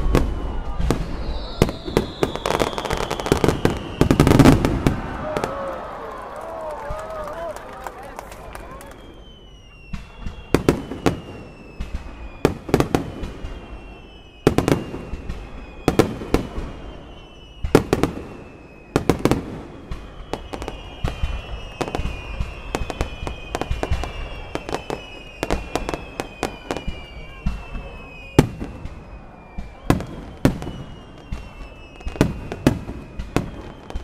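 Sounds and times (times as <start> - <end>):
falling whistling tones: 0.0 - 7.2, 8.1 - 34.0
fireworks bangs: 0.0 - 34.0
fireworks booms: 0.0 - 34.0
fireworks crackling: 0.0 - 34.0.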